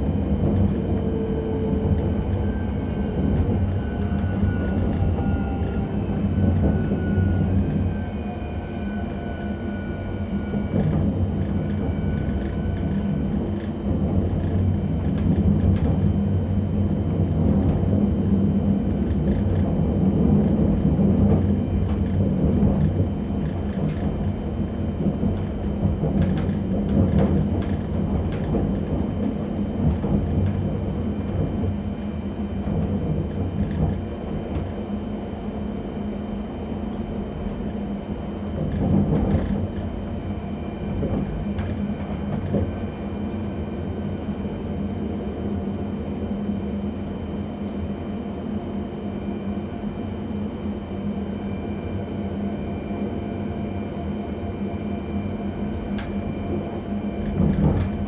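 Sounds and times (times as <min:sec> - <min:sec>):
train rumbling on jointed track: 0:00.0 - 0:46.2, 0:55.0 - 0:58.0.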